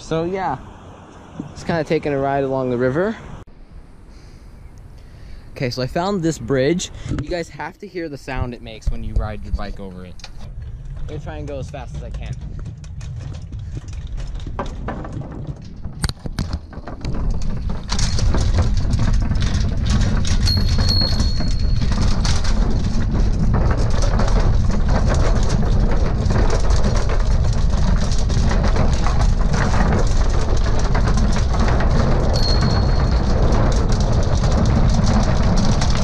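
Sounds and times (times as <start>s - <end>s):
bridge rattling rumble: 0.0s - 36.0s
bicycle wheels rolling: 4.0s - 36.0s.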